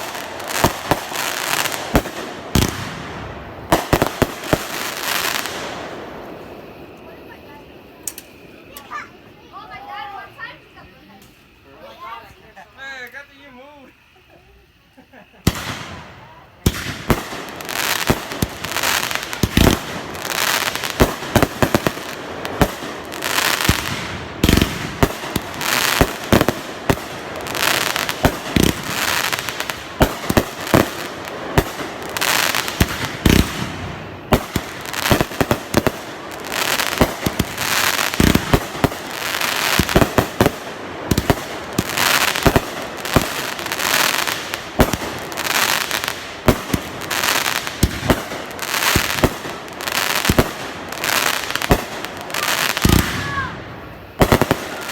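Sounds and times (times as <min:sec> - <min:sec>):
fireworks bangs: 0:00.0 - 0:12.0, 0:15.2 - 0:54.9
fireworks crackling hiss: 0:00.0 - 0:54.9.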